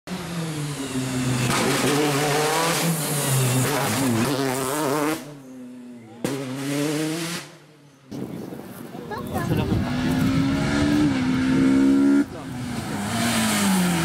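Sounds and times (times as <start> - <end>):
rally car engine revving: 0.1 - 8.2, 9.4 - 14.0.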